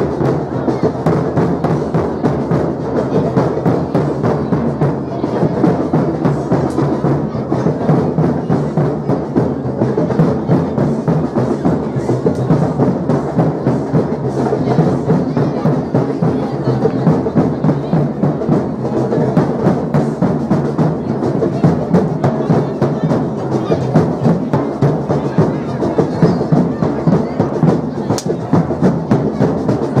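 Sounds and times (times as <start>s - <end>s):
drum group playing: 0.0s - 30.0s.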